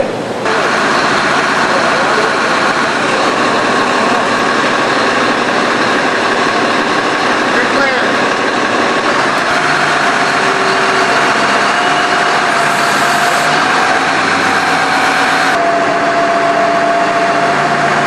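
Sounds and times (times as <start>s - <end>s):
steady whine: 0.0s - 18.0s
lift vehicle engine idling: 0.5s - 15.6s.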